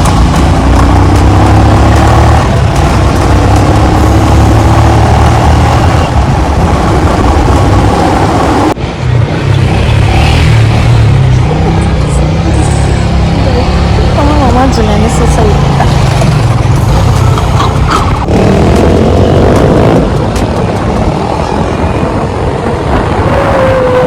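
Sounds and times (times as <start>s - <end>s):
vehicle engine accelerating: 0.0s - 24.0s.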